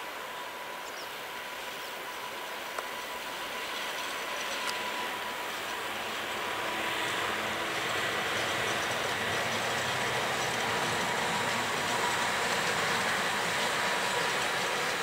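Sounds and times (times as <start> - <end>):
locomotive high whine: 0.0 - 15.0
train rolling rumble and hiss: 0.0 - 15.0.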